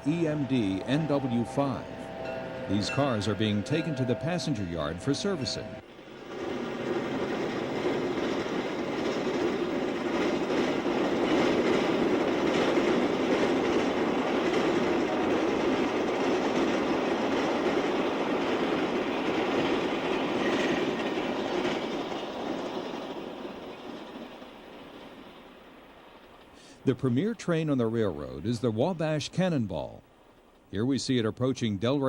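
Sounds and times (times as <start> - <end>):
train wheels rolling on rails: 0.0 - 28.4.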